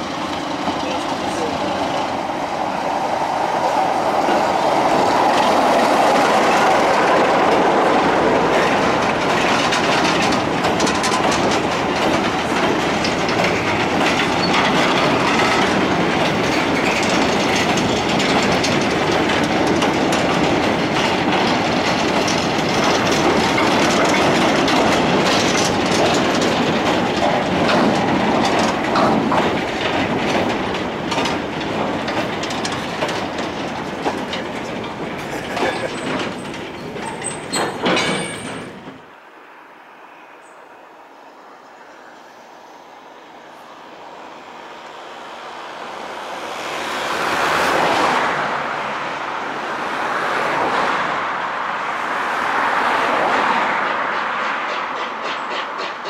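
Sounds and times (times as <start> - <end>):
train wheels clickety-clack: 0.0 - 39.1, 45.2 - 56.0.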